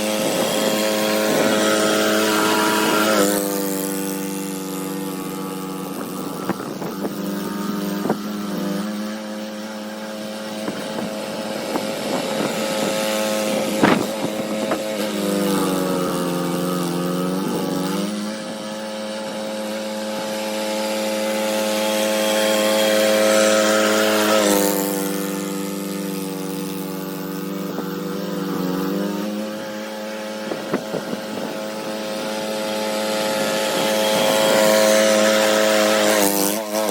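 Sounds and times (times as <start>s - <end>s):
snowblower engine running: 0.0s - 36.9s.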